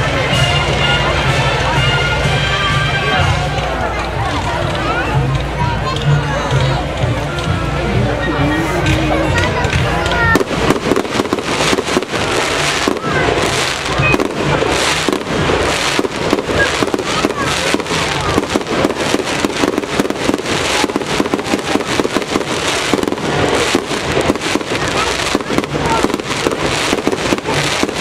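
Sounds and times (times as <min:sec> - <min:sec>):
fireworks crackling: 0:00.0 - 0:07.8, 0:08.4 - 0:28.0.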